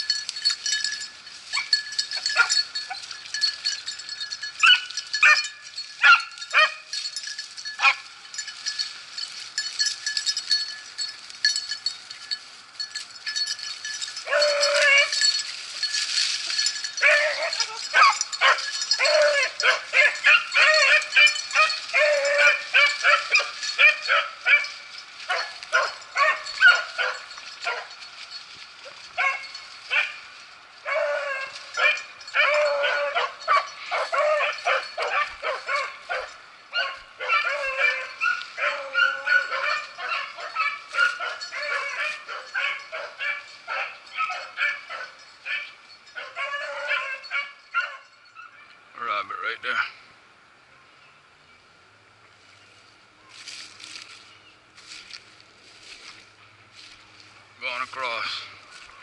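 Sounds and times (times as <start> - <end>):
beagles baying: 0.0 - 48.8.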